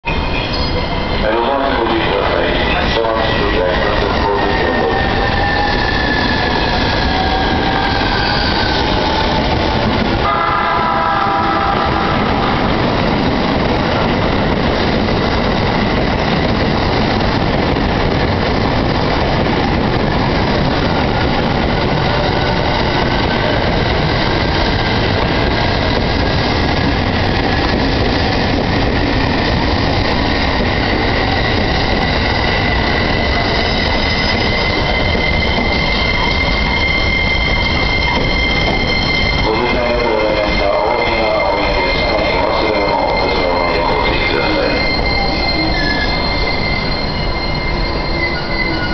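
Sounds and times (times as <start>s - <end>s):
train running and wheel noise: 0.0s - 48.9s.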